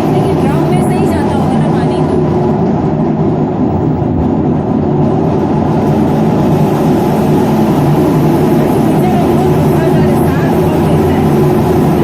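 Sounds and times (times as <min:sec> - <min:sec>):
machine drone with low hum: 0:00.0 - 0:12.0.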